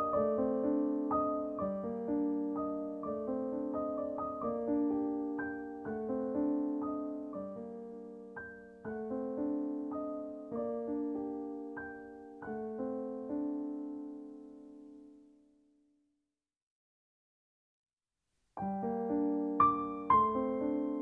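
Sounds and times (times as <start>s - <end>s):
slow piano melody: 0.0s - 15.6s, 18.6s - 21.0s.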